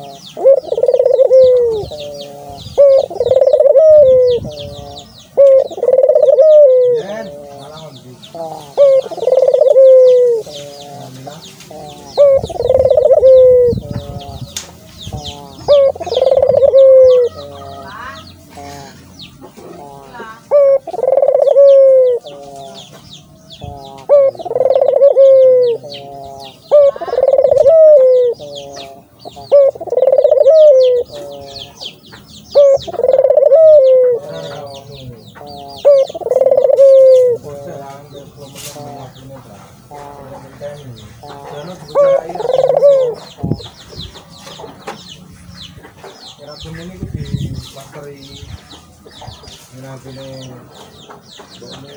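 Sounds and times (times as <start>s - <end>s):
dove cooing: 0.0s - 22.9s, 23.5s - 43.8s
high bird twittering: 0.0s - 51.9s.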